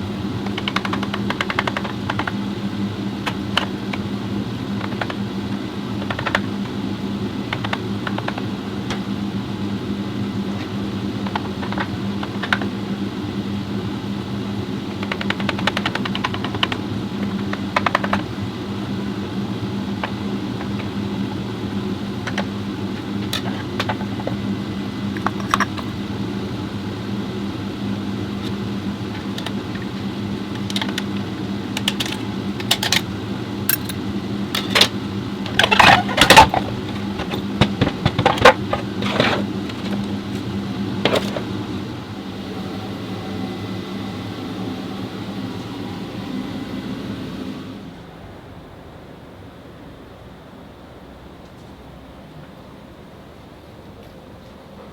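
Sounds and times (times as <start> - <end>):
mechanical hum: 0.0 - 54.9.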